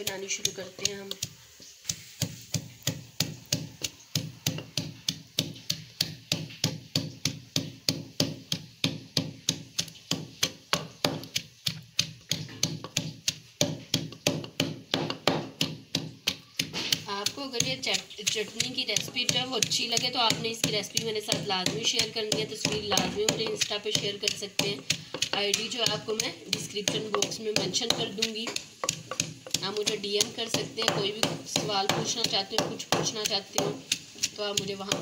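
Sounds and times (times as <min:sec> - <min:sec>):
wooden pestle pounding in stone mortar: 0:00.0 - 0:35.0.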